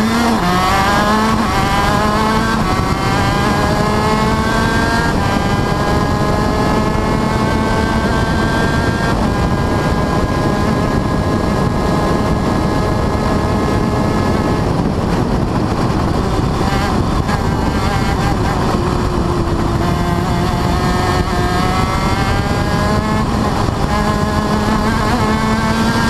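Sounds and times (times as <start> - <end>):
kart engine at full throttle: 0.0 - 26.0.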